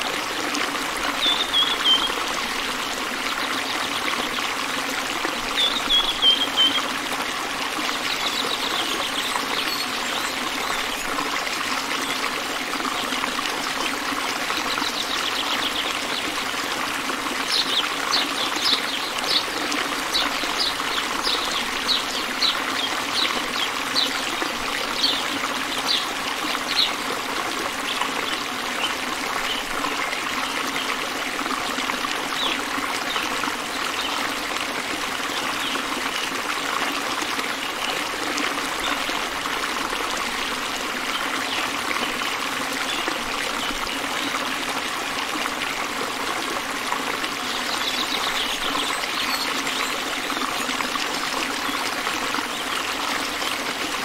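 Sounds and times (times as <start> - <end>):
stream over rocky cascades: 0.0 - 54.0.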